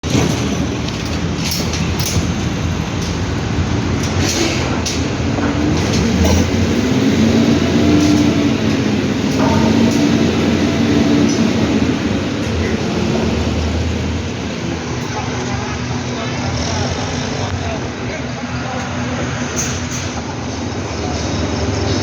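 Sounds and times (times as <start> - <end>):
heavy machinery rumbling: 0.0 - 22.0
wavering hum: 0.1 - 21.2.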